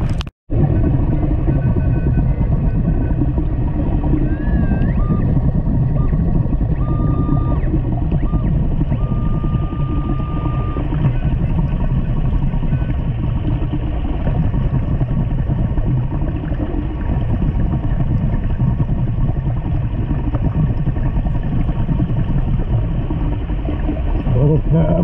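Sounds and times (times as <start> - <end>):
underwater rumble: 0.0 - 25.0.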